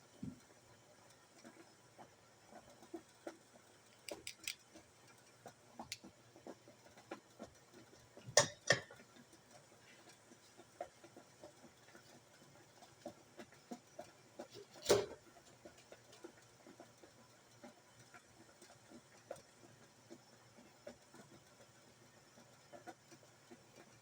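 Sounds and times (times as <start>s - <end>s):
small ticks and clicks: 0.1s - 8.2s, 9.0s - 24.0s.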